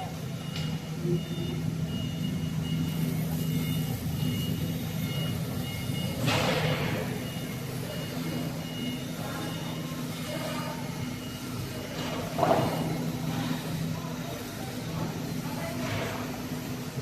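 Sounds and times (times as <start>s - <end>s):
high machine tone: 0.0s - 17.0s
machine humming: 0.0s - 17.0s.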